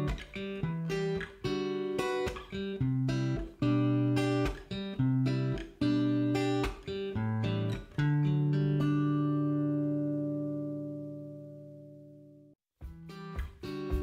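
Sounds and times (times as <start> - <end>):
guitar plucked chords: 0.0 - 14.0.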